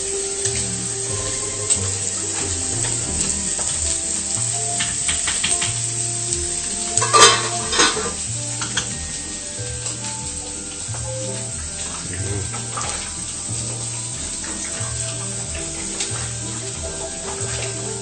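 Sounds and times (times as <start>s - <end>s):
background music: 0.0s - 18.0s
food sizzling in pan: 0.0s - 18.0s.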